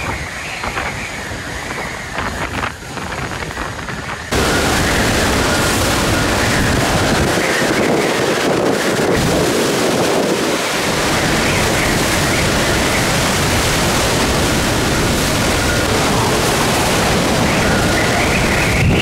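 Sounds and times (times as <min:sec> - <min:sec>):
heavy rain: 0:00.0 - 0:19.0
strong wind: 0:00.0 - 0:19.0
wind buffeting microphone: 0:00.0 - 0:19.0.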